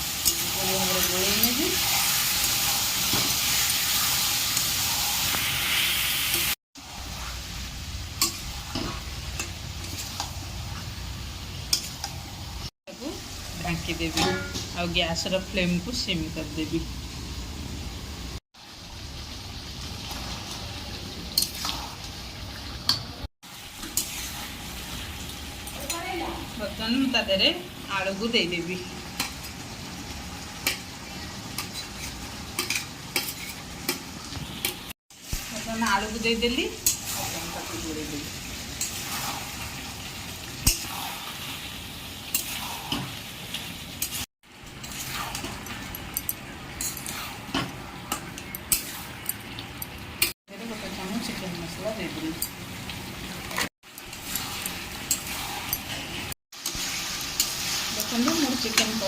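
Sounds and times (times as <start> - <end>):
curry bubbling and sizzling: 0.0 - 59.0.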